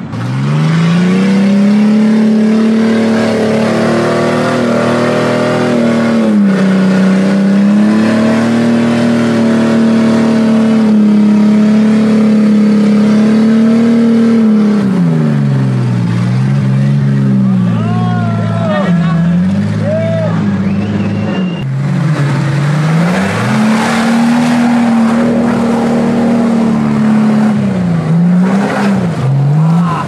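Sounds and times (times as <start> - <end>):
engine at high revs: 0.0 - 17.8, 18.6 - 30.0.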